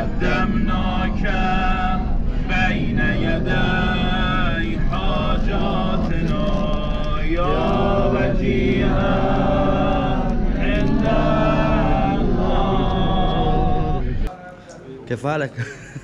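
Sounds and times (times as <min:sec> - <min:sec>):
person chanting a slow lament: 0:00.0 - 0:14.3
steady low rumble: 0:00.0 - 0:14.3.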